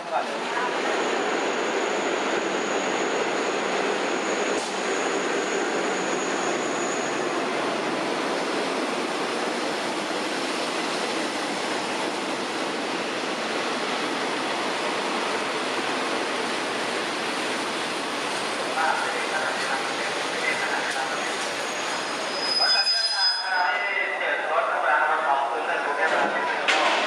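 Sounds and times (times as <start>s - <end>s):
train wheels rushing on rails: 0.0s - 22.6s.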